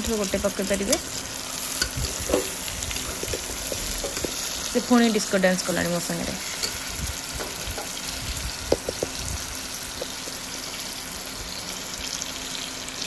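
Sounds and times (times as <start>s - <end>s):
tomatoes sizzling in oil: 0.0s - 13.0s.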